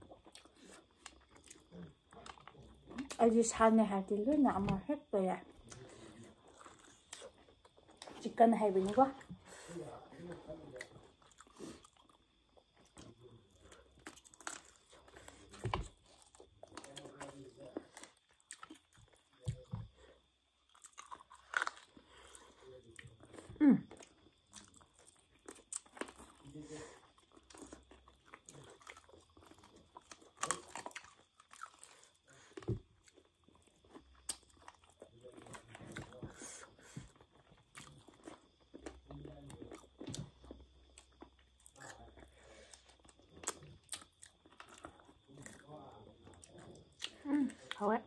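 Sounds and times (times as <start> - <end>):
chewing and biting chicken: 0.0 - 3.2, 5.6 - 8.2, 9.5 - 47.8.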